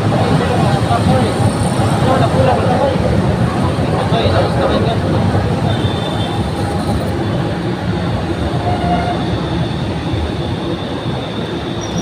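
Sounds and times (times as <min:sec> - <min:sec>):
train cars passing: 0:00.0 - 0:12.0.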